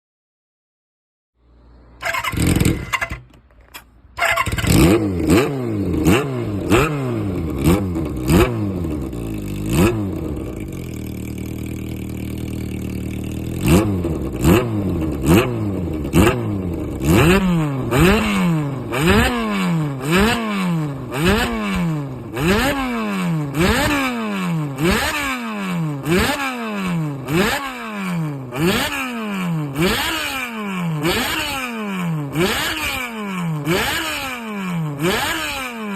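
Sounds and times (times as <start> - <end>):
motorcycle engine revving: 1.7 - 35.9.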